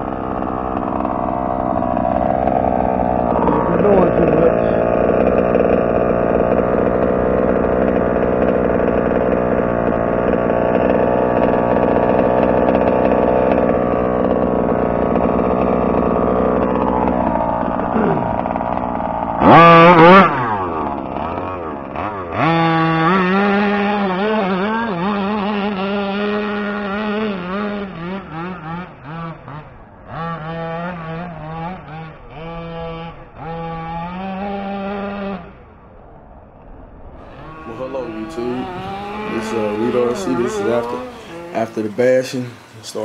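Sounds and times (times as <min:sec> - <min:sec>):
model truck two-stroke engine revving: 0:00.0 - 0:35.7, 0:36.7 - 0:43.0.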